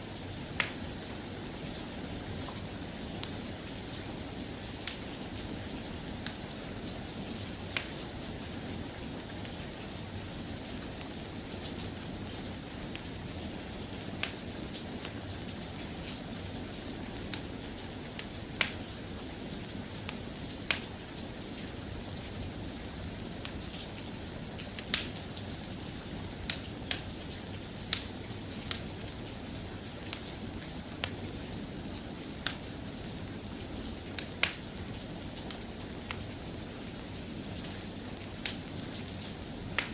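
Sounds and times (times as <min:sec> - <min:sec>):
soft rain: 0:00.0 - 0:39.9.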